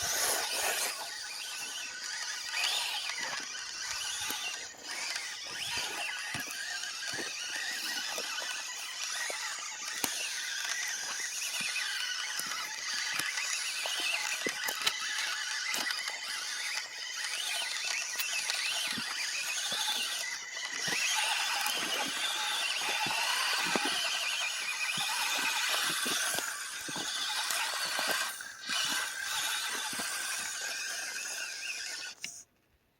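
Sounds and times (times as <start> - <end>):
dirt and stones crackling under tyres: 0.0 - 32.1
small electric motor whining: 0.0 - 32.5.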